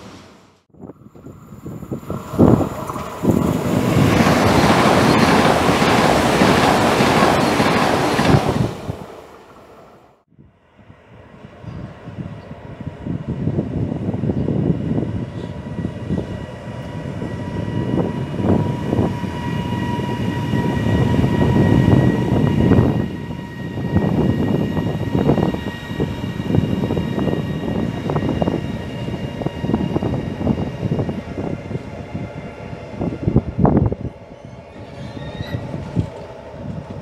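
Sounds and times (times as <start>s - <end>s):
steel wheels rumbling on rail: 0.0s - 10.0s, 11.0s - 37.0s
locomotive whine: 0.1s - 37.0s.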